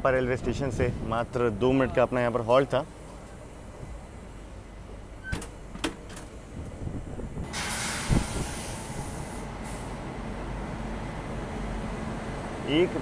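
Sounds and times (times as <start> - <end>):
train coaches rumbling: 0.0 - 13.0.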